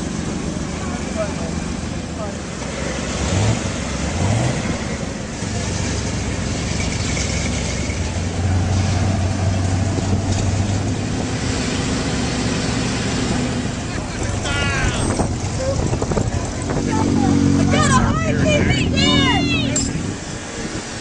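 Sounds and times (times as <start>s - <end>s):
broad rush of noise: 0.0s - 21.0s
race engines revving: 0.0s - 21.0s
steady engine drone: 0.0s - 21.0s.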